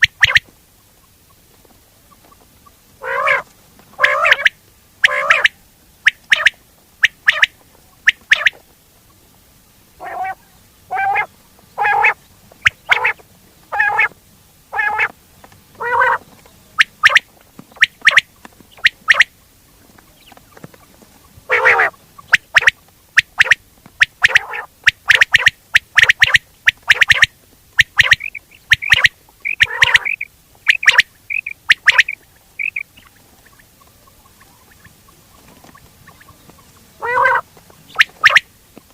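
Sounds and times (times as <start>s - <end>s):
quail calling: 0.0s - 0.5s, 2.1s - 8.6s, 10.0s - 19.6s, 20.2s - 38.5s.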